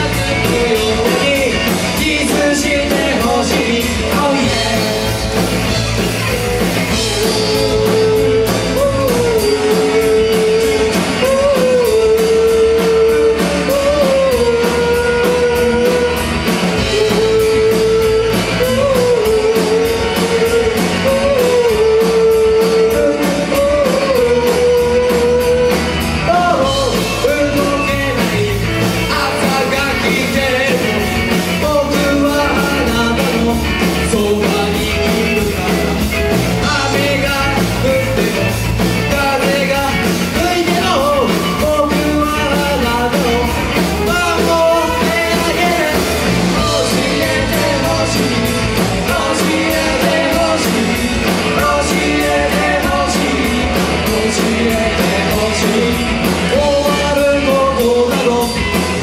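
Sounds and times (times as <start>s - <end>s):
person singing: 0.0s - 59.0s
punk rock band playing live: 0.0s - 59.0s.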